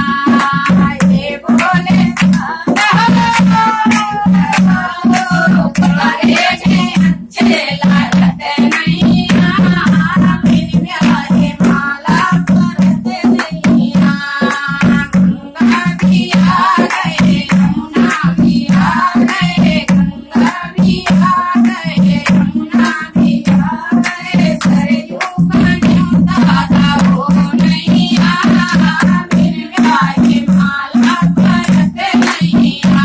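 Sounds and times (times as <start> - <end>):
quick percussion beat: 0.0 - 33.0
voices singing: 0.0 - 33.0.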